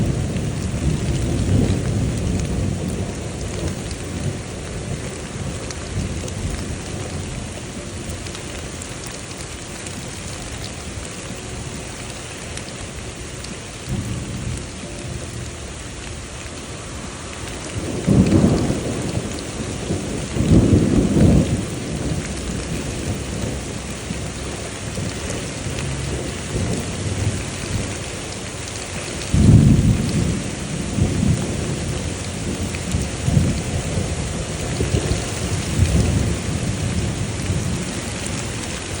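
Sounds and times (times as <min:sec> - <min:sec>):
steady rain falling: 0:00.0 - 0:39.0
thunder rumbling: 0:00.0 - 0:39.0.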